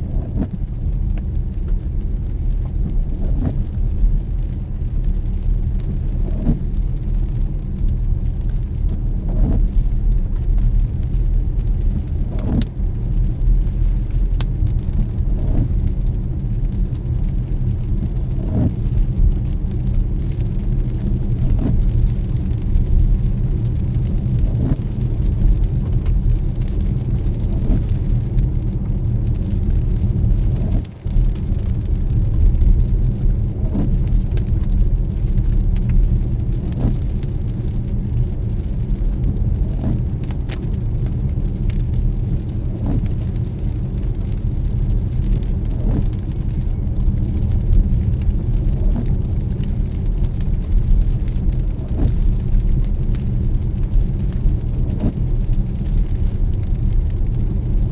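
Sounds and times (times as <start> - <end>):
car driving on wet road: 0.0 - 57.9.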